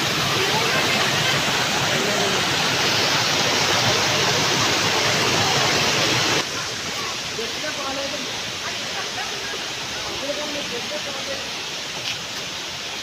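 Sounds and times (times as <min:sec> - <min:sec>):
waterfall rushing water: 0:00.0 - 0:13.0.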